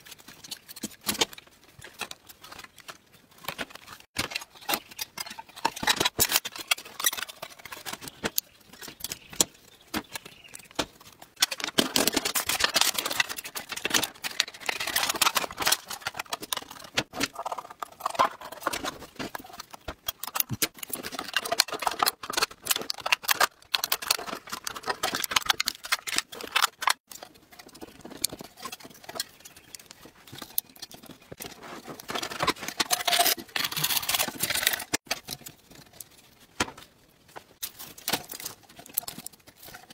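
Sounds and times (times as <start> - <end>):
metal sheet crinkling: 0.0 - 39.9.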